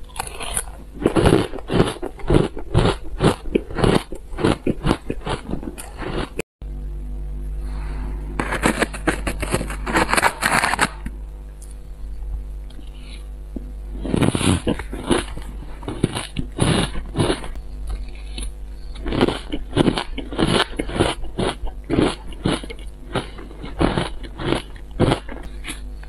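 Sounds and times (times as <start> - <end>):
chewing crunchy shaved ice: 0.1 - 6.4, 8.4 - 11.8, 13.9 - 26.0.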